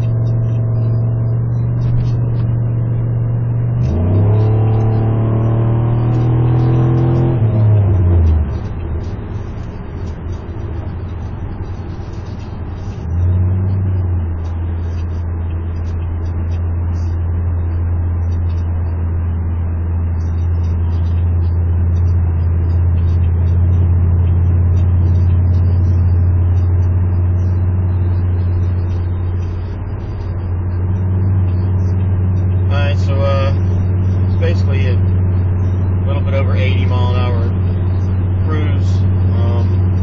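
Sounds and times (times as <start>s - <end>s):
car exhaust drone: 0.0s - 40.0s.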